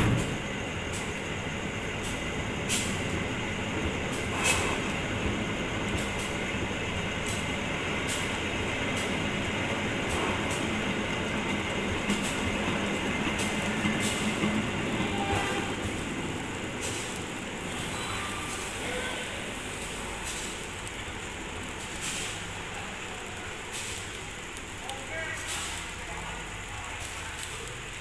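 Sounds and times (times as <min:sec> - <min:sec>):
train coach running rumble: 0:00.0 - 0:24.8.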